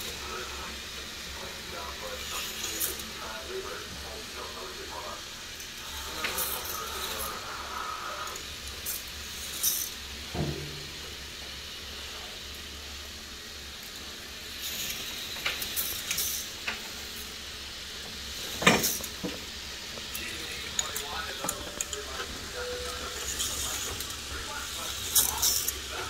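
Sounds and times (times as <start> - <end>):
whirring chain lift motor: 0.0 - 10.7, 13.6 - 26.0.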